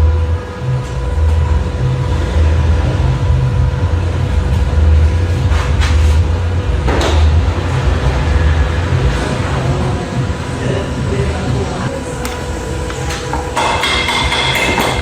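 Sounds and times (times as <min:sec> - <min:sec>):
car engine rumbling: 0:00.0 - 0:13.6.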